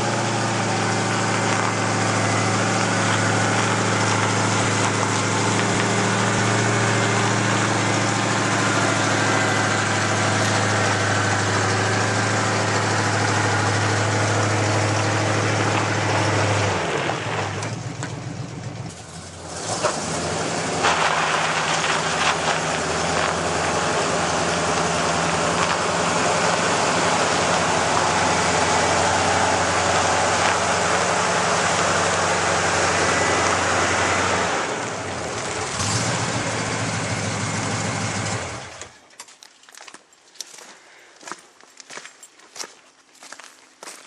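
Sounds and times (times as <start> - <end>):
truck engine running under load: 0.0 - 39.0.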